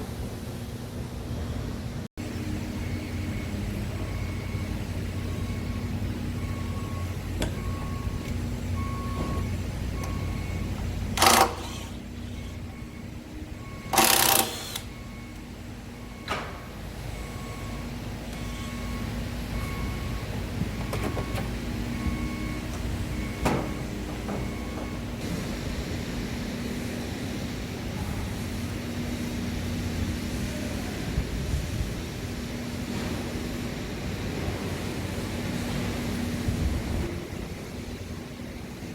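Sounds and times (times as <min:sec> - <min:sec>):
steady machine hum: 0:00.0 - 0:32.8.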